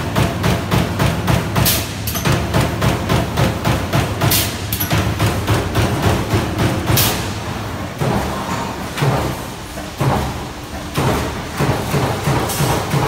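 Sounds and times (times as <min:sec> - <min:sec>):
machine running noise: 0:00.0 - 0:13.0.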